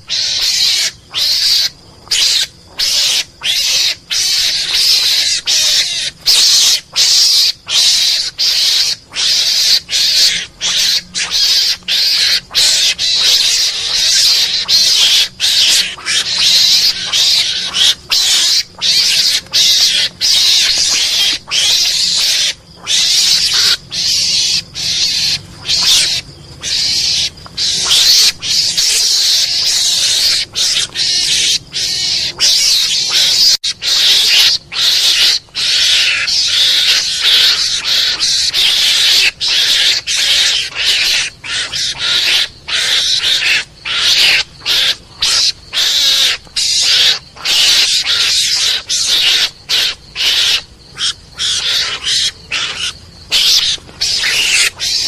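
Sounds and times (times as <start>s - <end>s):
raspy hissing animal chatter: 0.0s - 55.0s.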